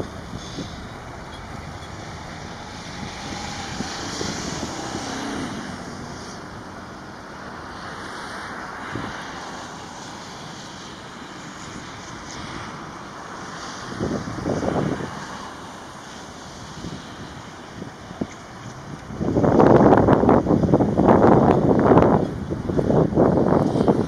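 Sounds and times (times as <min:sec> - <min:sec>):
jet engines at takeoff: 0:00.0 - 0:24.0
wind buffeting microphone: 0:00.0 - 0:24.0.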